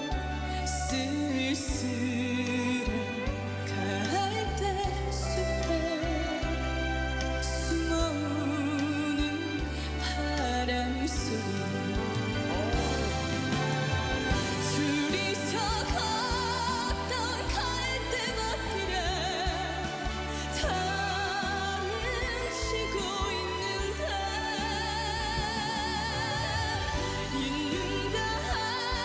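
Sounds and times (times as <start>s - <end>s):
band accompaniment with pulsing bass: 0.0s - 29.0s
person singing with vibrato: 0.0s - 29.0s.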